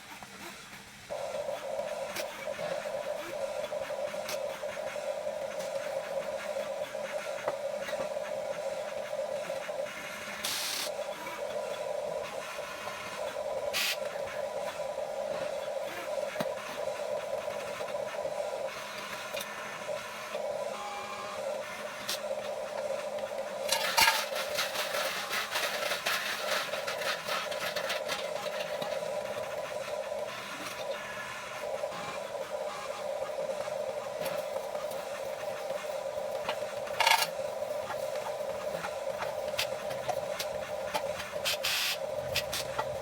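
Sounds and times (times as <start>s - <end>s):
electric motors whining: 1.1s - 43.0s.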